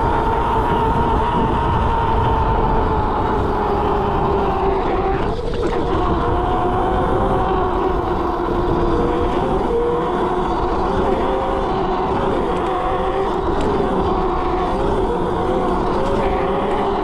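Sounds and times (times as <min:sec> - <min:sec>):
electric mini bike whine: 0:00.0 - 0:17.0.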